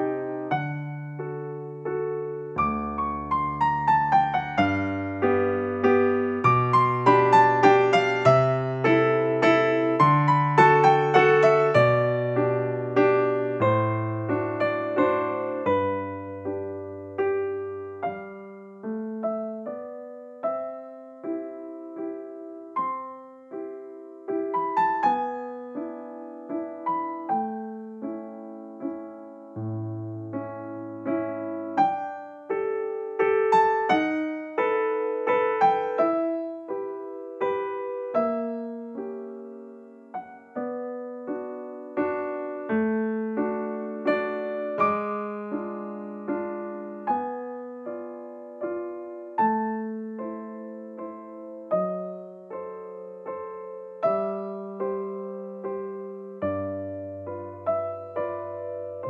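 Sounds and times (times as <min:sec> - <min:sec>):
gentle piano melody: 0:00.0 - 0:59.0.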